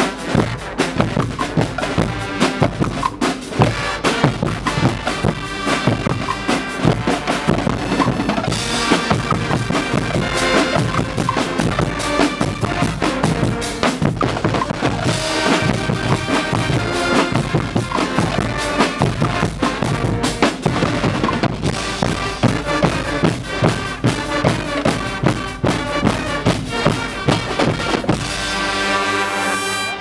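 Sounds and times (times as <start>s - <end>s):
brass band playing: 0.0s - 30.0s
marching drums and cymbals: 0.0s - 30.0s.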